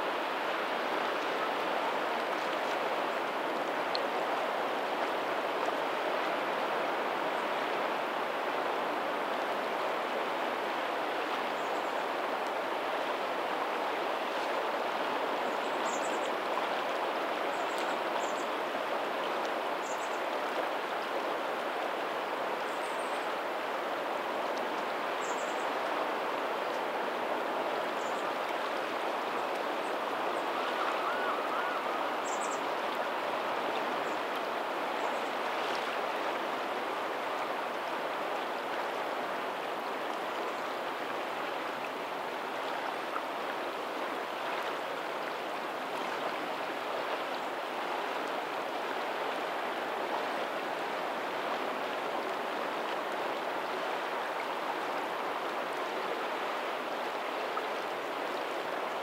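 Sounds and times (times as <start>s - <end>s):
faint ocean waves: 0.0s - 59.0s
water babbling over pebbles: 0.0s - 59.0s.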